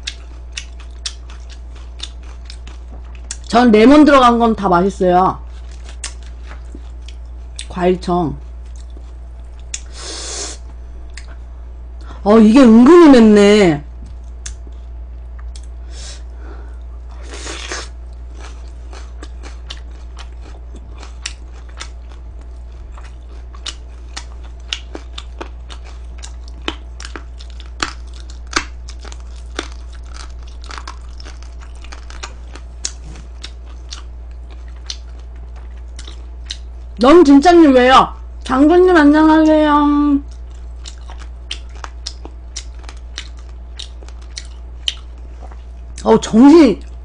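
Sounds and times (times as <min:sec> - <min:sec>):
chewing crispy fried chicken: 0:00.0 - 0:04.4, 0:05.4 - 0:10.0, 0:14.1 - 0:37.0, 0:38.1 - 0:46.2
steady low hum: 0:00.0 - 0:47.0.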